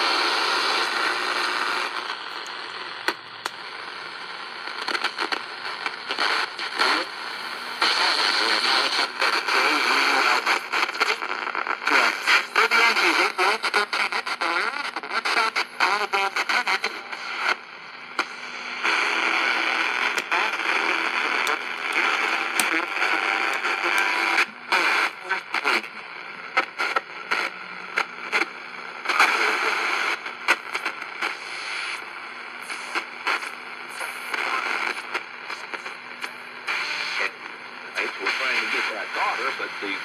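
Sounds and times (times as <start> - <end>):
radio crackles: 0.0 - 40.0
radio static and hiss: 0.0 - 40.0
snatches of broadcast sound: 0.0 - 40.0.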